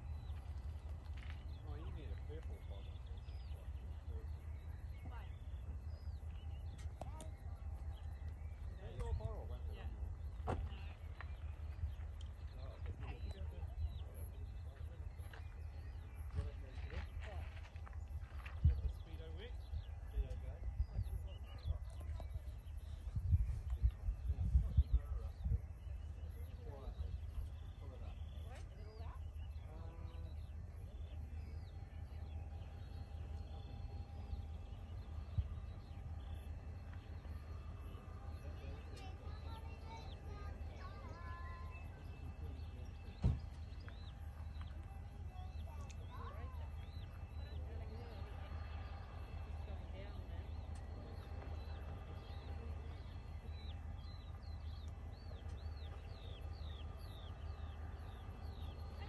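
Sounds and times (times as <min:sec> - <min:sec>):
faint bird chirps: 0:00.0 - 0:59.0
steady low rumble: 0:00.0 - 0:59.0.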